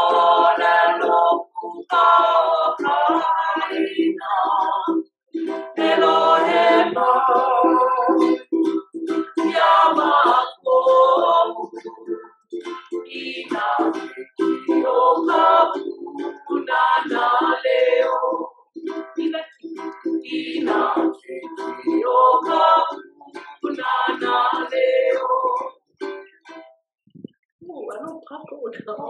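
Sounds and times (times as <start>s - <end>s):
group of people singing: 0.0s - 25.8s
strummed ukulele: 0.0s - 26.8s.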